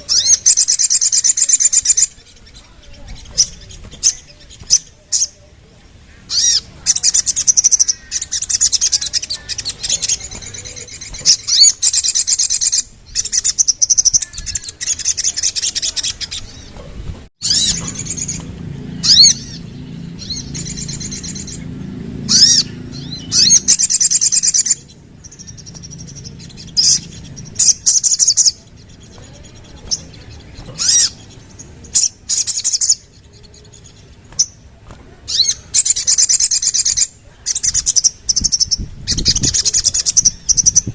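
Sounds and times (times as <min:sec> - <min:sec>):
bird trilled twittering: 0:00.0 - 0:40.9.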